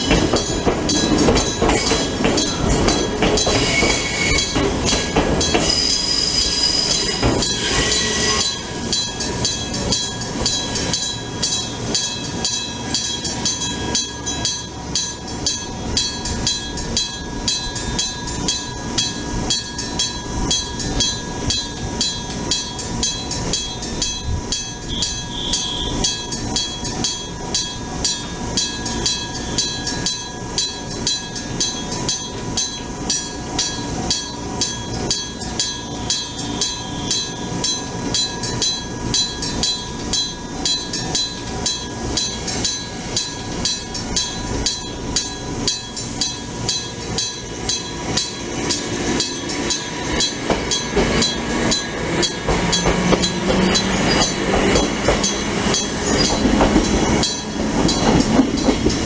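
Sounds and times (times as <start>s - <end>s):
level-crossing bell ringing: 0.0s - 59.0s.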